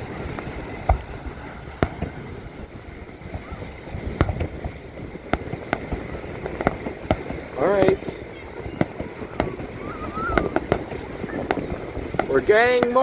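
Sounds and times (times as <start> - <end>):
fireworks bursting: 0.0 - 13.0
surf: 0.0 - 13.0
wind: 0.0 - 13.0.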